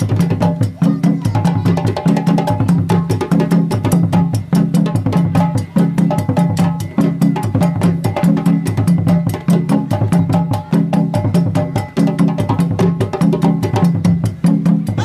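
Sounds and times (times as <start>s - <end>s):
djembe drumming: 0.0s - 15.0s.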